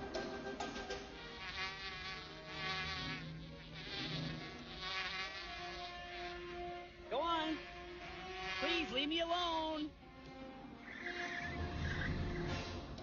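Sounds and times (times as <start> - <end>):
bee buzzing in flight: 0.1 - 13.0.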